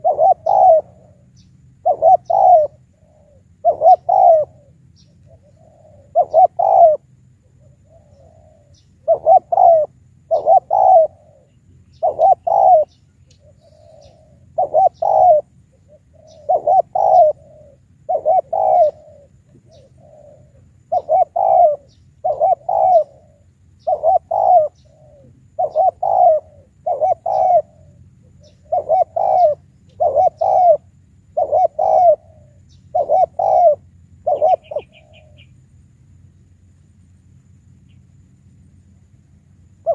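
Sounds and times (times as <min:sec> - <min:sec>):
dove cooing: 0:00.0 - 0:35.7, 0:39.6 - 0:39.9.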